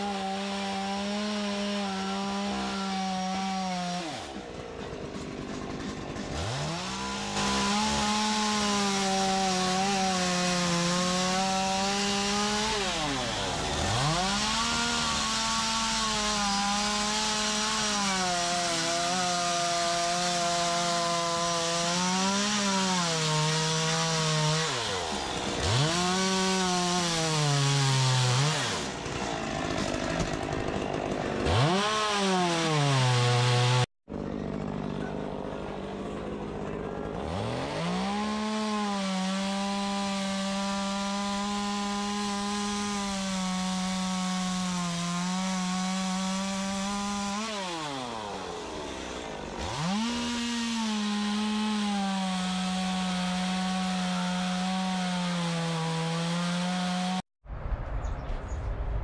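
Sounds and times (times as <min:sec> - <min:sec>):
chainsaw cutting log: 0:00.0 - 0:57.2.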